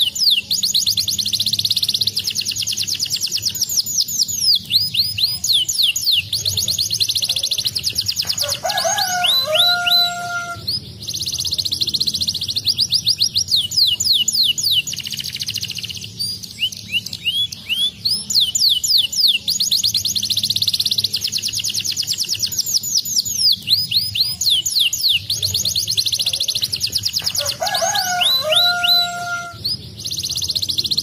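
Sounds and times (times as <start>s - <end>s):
canary singing trills: 0.0s - 31.0s.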